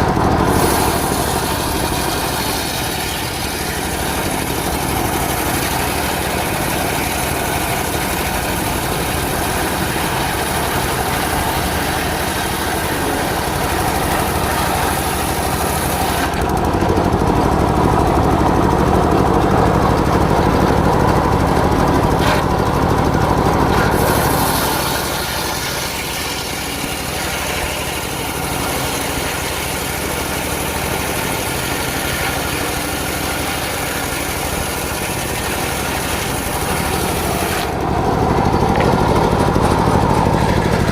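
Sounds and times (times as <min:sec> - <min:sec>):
circular sawmill running: 0:00.0 - 0:40.9.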